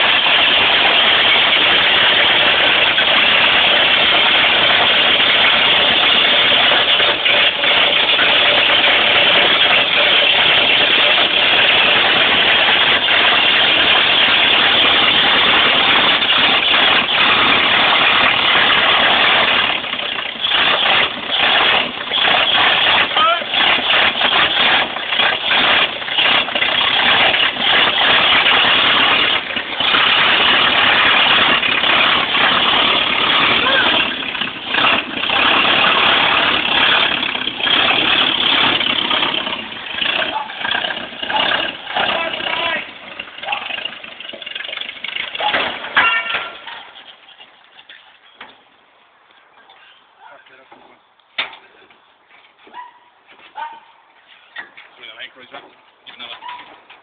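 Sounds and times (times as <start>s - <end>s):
truck engine running loudly: 0.0s - 47.4s.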